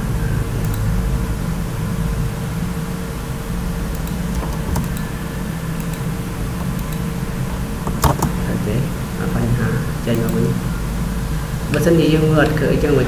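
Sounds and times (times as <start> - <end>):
faint constant tone: 0.0 - 13.0
low background hum: 0.0 - 13.0.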